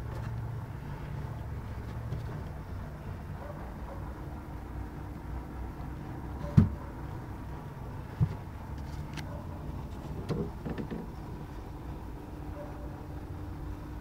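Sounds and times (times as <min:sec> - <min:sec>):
steady low background hum: 0:00.0 - 0:14.0.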